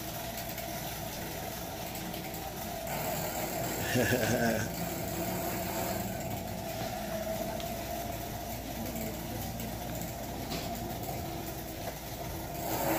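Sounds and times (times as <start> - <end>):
bicycle wheel whirring: 0.0 - 12.9.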